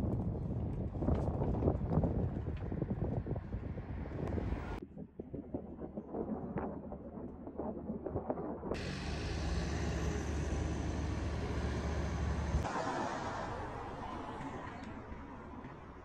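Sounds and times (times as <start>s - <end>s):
low rumble: 2.0s - 16.0s.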